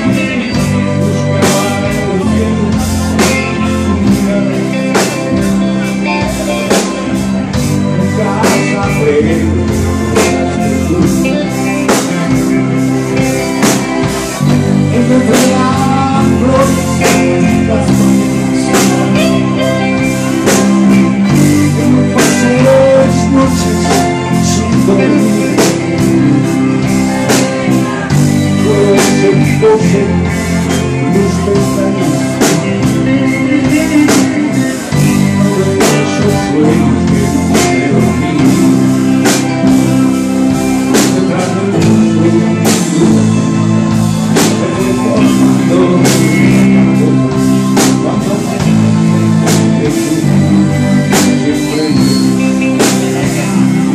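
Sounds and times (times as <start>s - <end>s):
bass guitar: 0.0s - 53.9s
drum kit beat: 0.0s - 53.9s
electric guitars: 0.0s - 53.9s.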